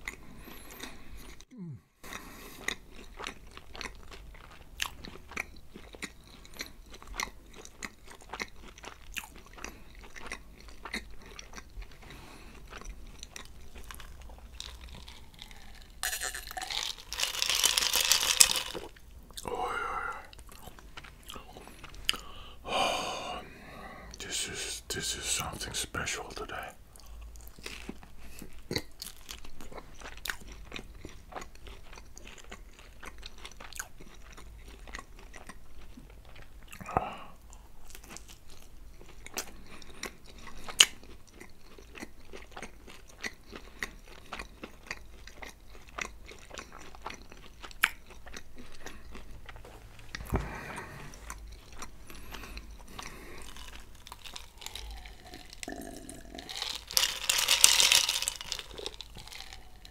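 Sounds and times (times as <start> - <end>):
chewing crunchy pizza crust: 0.0 - 59.9.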